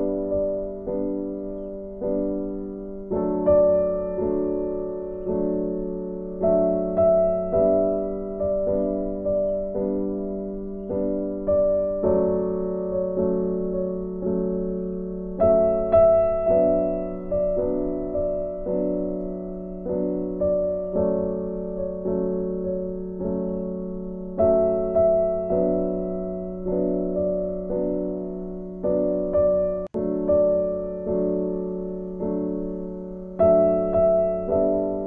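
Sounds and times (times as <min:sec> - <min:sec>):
slow piano music: 0:00.0 - 0:35.0.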